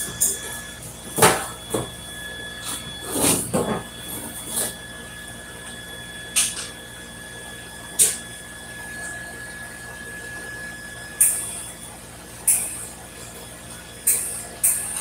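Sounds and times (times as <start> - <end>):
high-pitched whine of shop equipment: 0.0 - 15.0.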